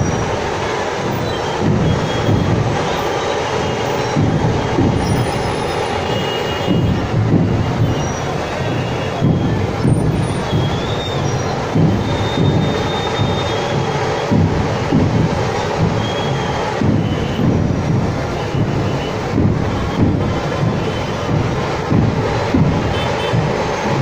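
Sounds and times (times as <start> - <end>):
crowd roar: 0.0 - 24.0
drum beats thudding: 0.0 - 24.0.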